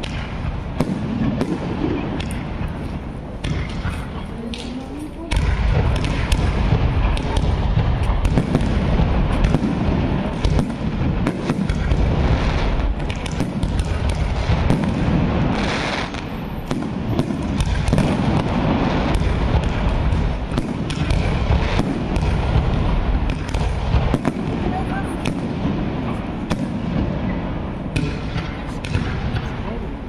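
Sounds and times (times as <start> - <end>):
fireworks launching and bursting: 0.0 - 30.0.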